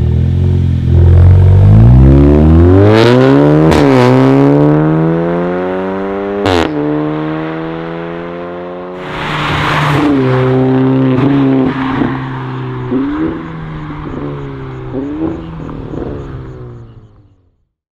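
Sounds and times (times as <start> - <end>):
car exhaust accelerating hard: 0.0 - 7.6, 9.0 - 17.2.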